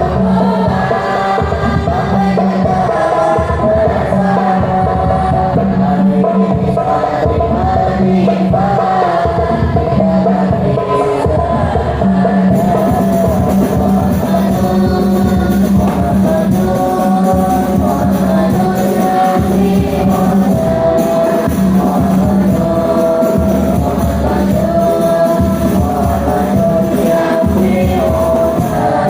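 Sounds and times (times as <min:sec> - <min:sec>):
hand percussion: 0:00.0 - 0:29.0
person singing devotional song: 0:00.0 - 0:29.0.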